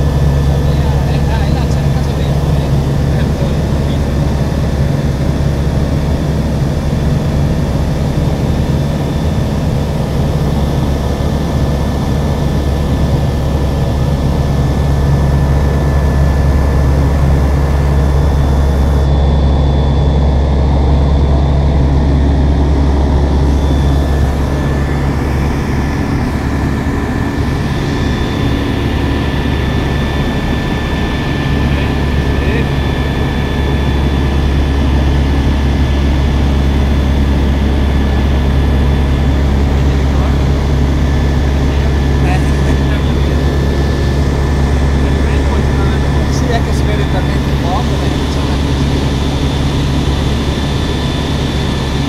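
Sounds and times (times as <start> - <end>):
aircraft engine drone in cockpit: 0.0 - 52.0.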